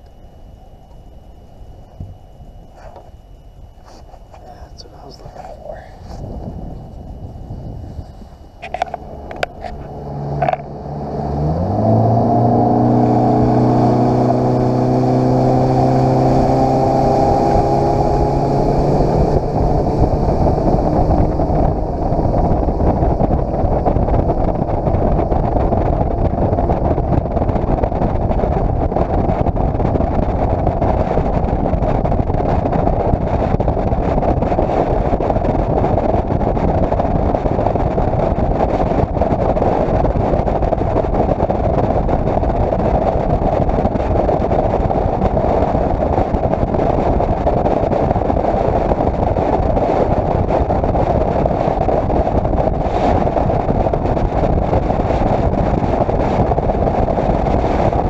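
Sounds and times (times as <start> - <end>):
wind on microphone: 0.0 - 58.0
outboard motor throttling up: 6.2 - 58.0
water under boat hull: 6.5 - 58.0.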